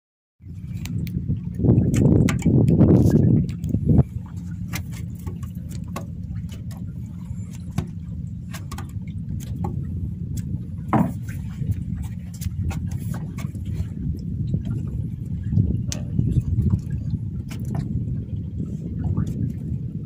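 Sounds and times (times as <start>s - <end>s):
boat engine humming: 0.4s - 20.0s.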